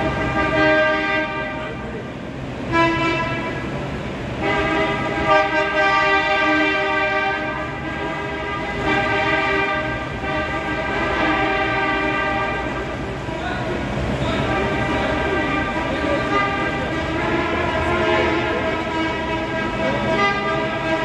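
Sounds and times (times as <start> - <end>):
car horns blasting: 0.0 - 21.0.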